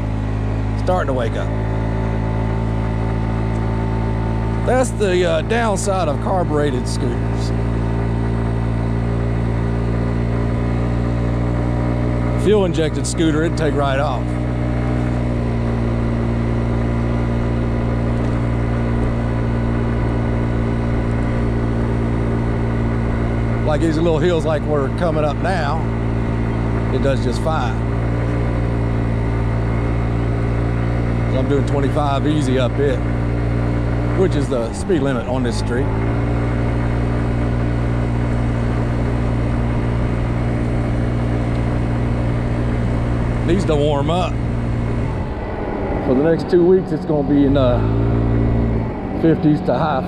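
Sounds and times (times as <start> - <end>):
scooter engine running: 0.0 - 50.0.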